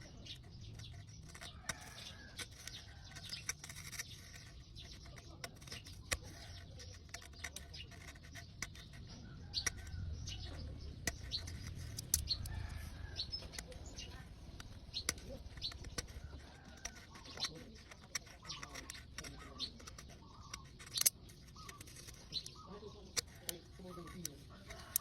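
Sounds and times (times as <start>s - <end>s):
birds chirping: 0.0s - 25.0s
gasket scraper scraping metal: 0.0s - 25.0s.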